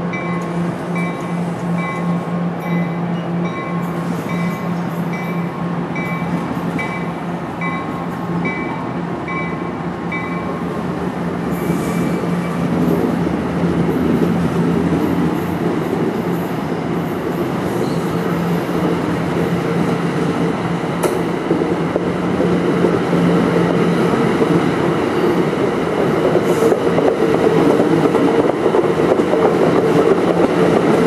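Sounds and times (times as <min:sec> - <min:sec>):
train rolling past: 0:00.0 - 0:31.0
wheel and rail rumble: 0:00.0 - 0:31.0.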